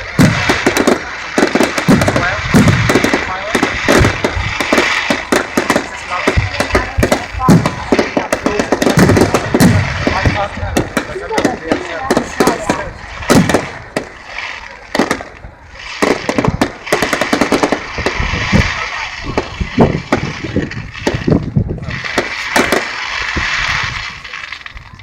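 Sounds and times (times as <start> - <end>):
crowd hiss: 0.0 - 25.0
fireworks bangs: 0.0 - 25.0
fireworks crackling: 0.0 - 25.0.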